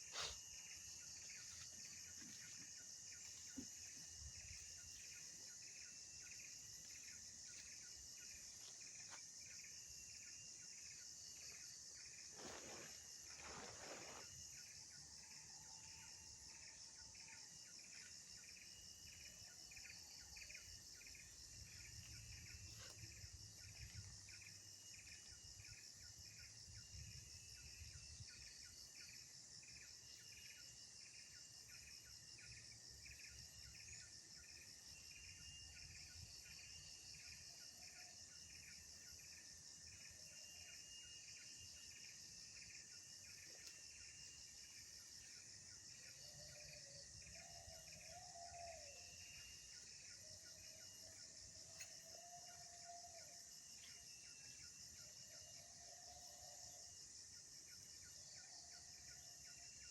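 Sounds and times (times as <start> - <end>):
insect trill: 0.0 - 59.9
pulsing insect chirp: 0.0 - 59.9.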